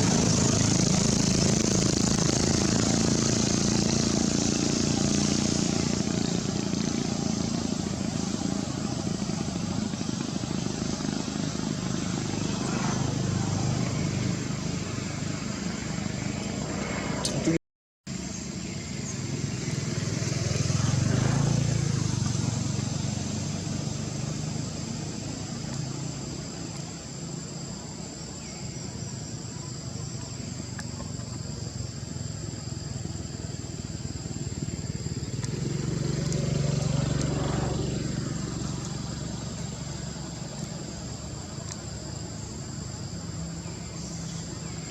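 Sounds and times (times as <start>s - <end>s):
motor vehicles passing by: 0.0s - 44.9s
steady high-pitched whine: 0.0s - 44.9s.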